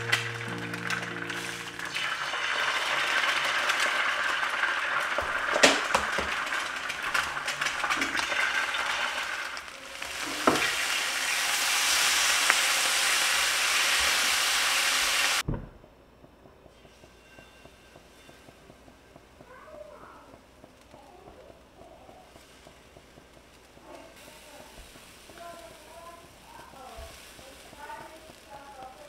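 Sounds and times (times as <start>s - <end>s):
bacon sizzling in pan: 0.0s - 15.4s, 16.7s - 29.0s
eggs sizzling in oil: 0.0s - 15.4s, 16.6s - 29.0s.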